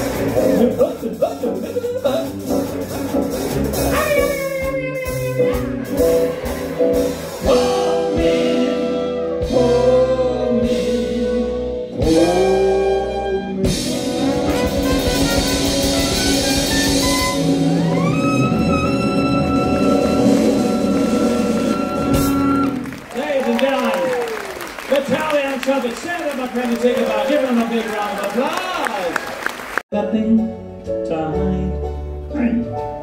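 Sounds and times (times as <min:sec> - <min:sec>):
live band with drums: 0:00.0 - 0:29.8.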